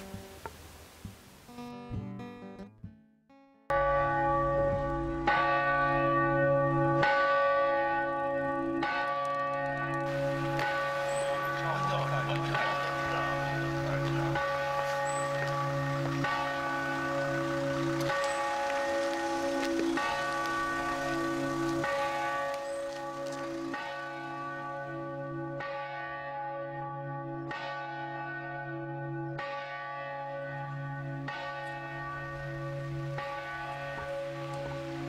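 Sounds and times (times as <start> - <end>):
church bell tolling slowly: 3.7 - 35.0.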